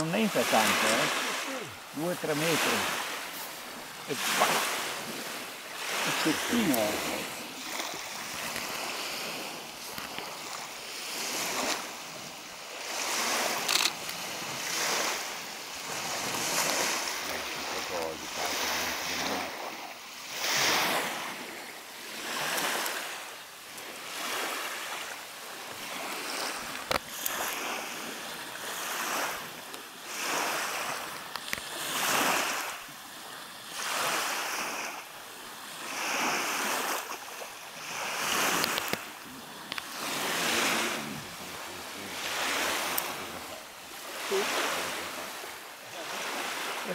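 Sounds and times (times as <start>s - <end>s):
light wind: 0.0s - 46.9s
waves washing onto gravel shore: 0.0s - 46.9s.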